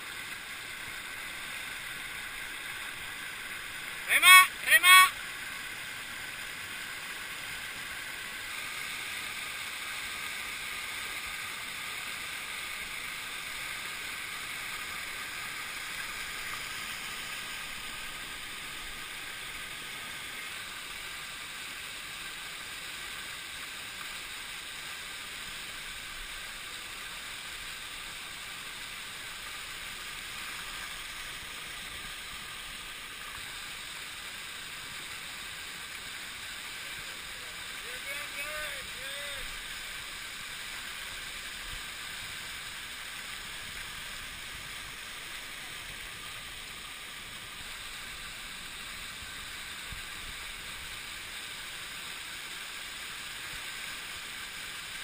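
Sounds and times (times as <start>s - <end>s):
river rapids rushing over boulders: 0.0s - 55.0s.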